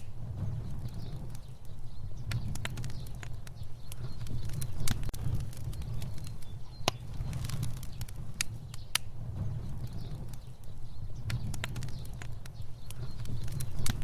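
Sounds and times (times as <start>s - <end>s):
fire burning: 0.0s - 14.0s
fire crackling and popping: 0.0s - 14.0s.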